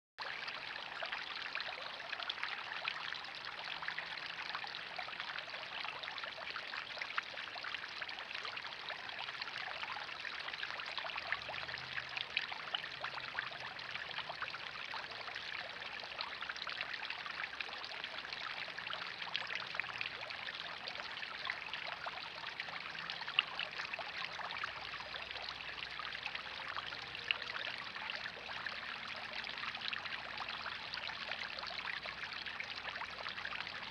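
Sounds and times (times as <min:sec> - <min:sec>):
small waterfall spilling into pond: 0:00.2 - 0:33.9.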